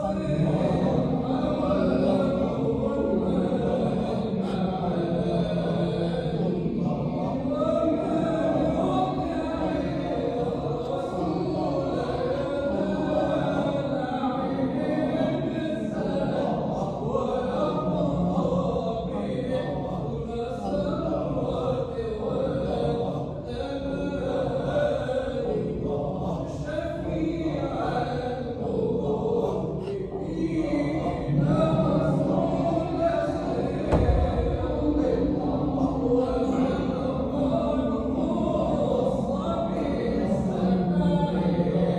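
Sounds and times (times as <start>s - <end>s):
men chanting together: 0.0s - 41.9s
steady low held drone: 0.0s - 41.9s.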